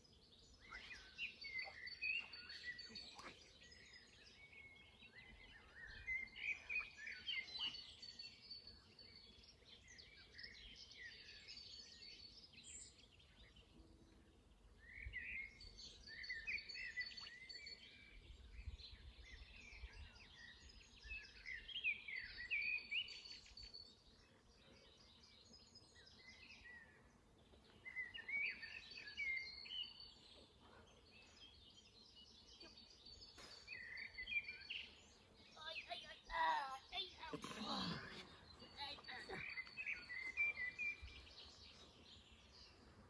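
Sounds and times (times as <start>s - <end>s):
garden birds singing: 0.0s - 43.0s.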